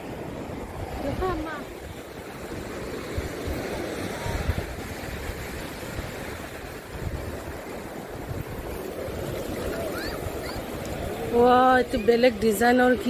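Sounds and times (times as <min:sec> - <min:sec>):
surf washing onto sandy beach: 0:00.0 - 0:13.0
wind buffeting microphone: 0:00.0 - 0:13.0.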